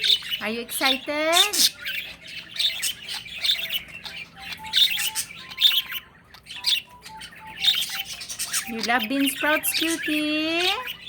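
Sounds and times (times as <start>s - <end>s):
pet bird chirping: 0.0s - 11.0s.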